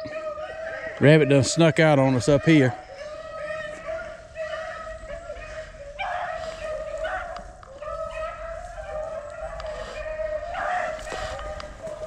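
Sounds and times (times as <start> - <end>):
dogs baying: 0.0 - 12.0.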